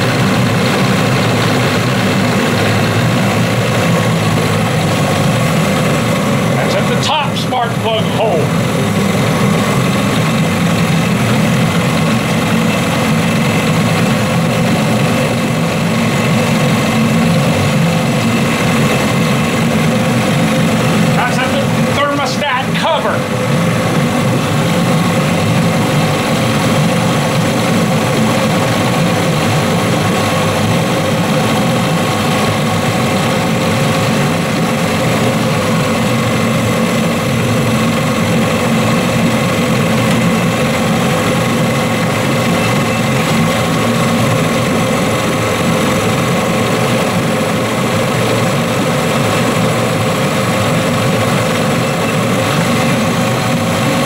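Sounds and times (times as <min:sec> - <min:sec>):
outboard engine idling: 0:00.0 - 0:54.0.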